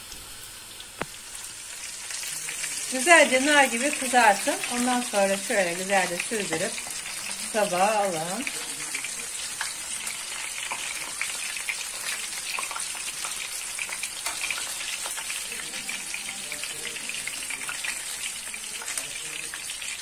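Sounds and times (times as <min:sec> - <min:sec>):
hot oil sizzling and popping: 0:00.0 - 0:20.0.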